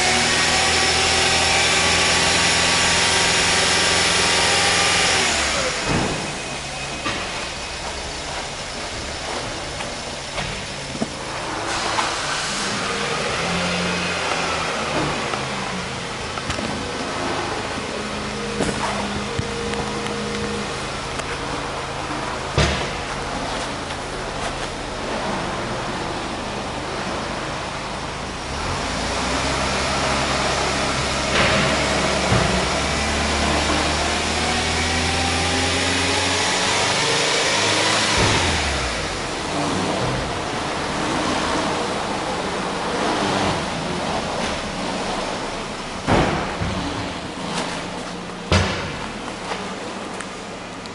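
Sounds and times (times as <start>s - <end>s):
car engine running: 0.0s - 50.9s.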